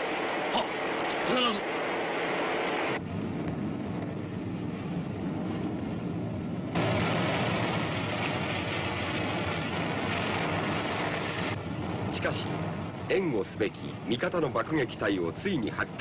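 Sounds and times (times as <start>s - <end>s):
propeller planes droning: 0.0s - 16.0s.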